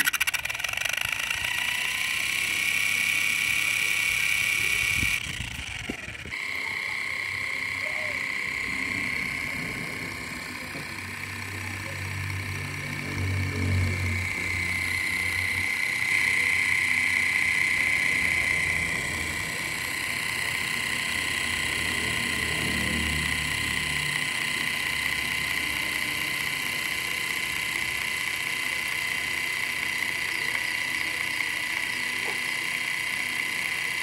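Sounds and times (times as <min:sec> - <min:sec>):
small electric motor whine: 0:00.0 - 0:34.0.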